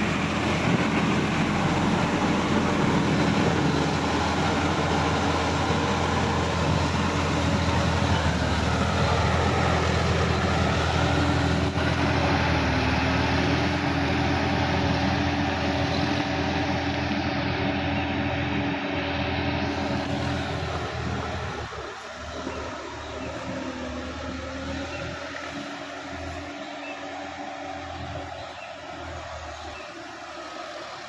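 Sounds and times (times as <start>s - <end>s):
tractor diesel engine: 0.0s - 31.0s.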